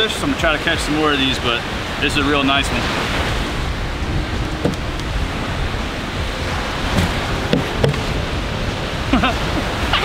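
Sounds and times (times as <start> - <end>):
breaking surf: 0.0 - 10.0
wind: 0.0 - 10.0.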